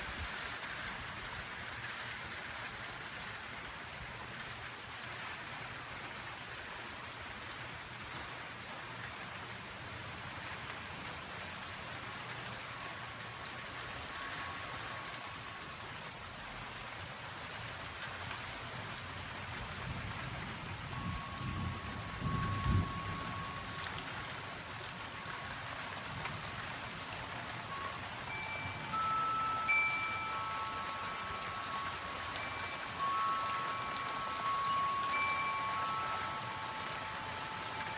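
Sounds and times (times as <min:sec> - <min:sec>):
heavy rain on stone: 0:00.0 - 0:37.9.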